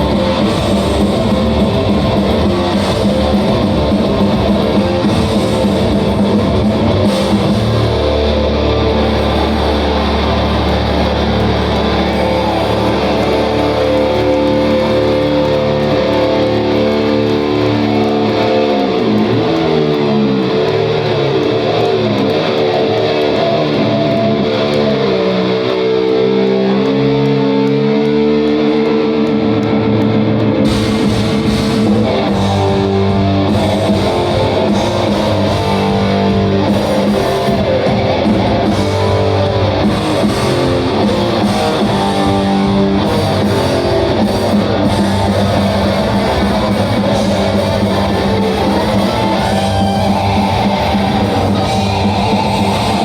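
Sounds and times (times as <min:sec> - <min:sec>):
bending guitar line: 0:00.0 - 0:53.0
heavy metal band playing: 0:00.0 - 0:53.0.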